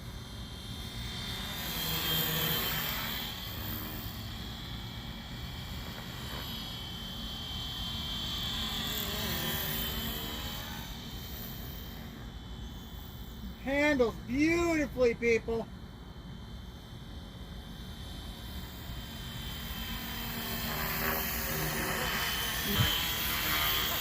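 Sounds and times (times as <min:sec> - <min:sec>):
rc helicopter motor whine: 0:00.0 - 0:14.8, 0:15.8 - 0:24.0.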